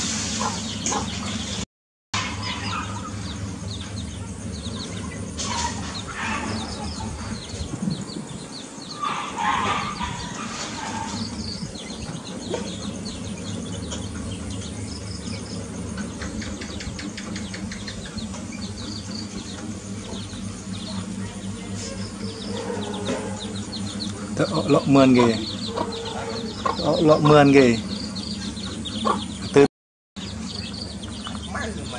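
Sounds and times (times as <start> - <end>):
chicks peeping: 0.3 - 1.6, 2.2 - 31.9.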